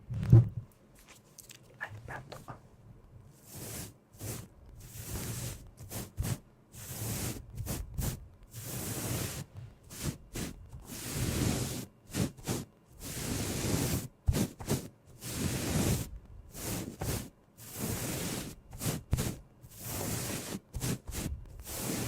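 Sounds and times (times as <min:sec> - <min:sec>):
rustling brushing strokes: 0:03.3 - 0:22.0.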